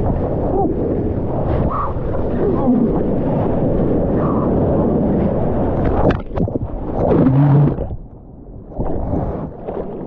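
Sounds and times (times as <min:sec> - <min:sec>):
seawater rushing and splashing: 0:00.0 - 0:10.0.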